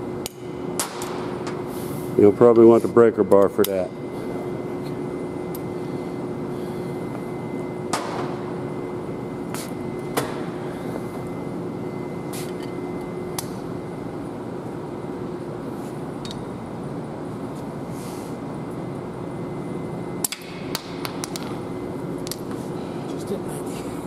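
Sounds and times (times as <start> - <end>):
workshop hum with low tone: 0.0 - 24.0.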